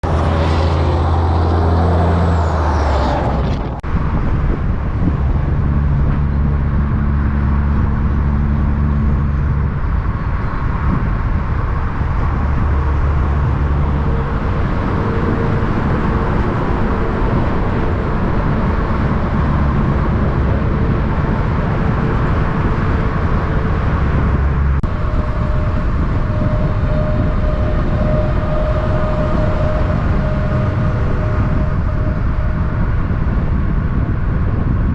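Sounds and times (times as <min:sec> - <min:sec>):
diesel truck engine droning: 0:00.0 - 0:34.9.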